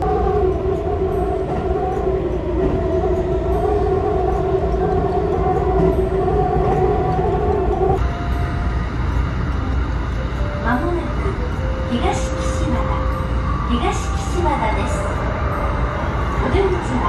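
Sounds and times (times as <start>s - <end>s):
electric train drive whine: 0.0s - 17.0s
train wheels rumbling on rail: 0.0s - 17.0s.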